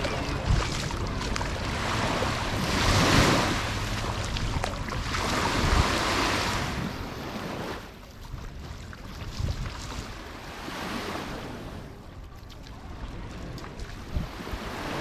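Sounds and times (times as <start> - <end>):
small waves breaking on beach: 0.0 - 15.0
wind rumbling on microphone: 0.0 - 15.0.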